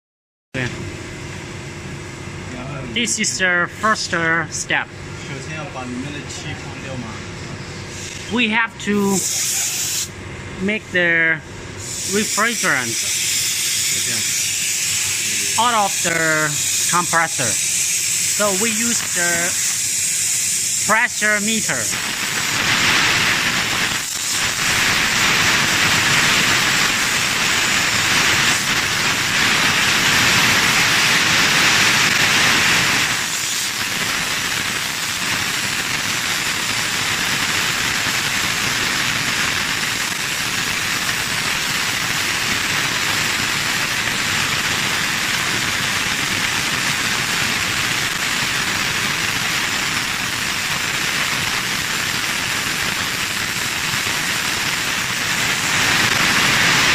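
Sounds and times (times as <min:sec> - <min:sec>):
gas hissing from hose: 0:09.2 - 0:10.1, 0:11.8 - 0:56.9.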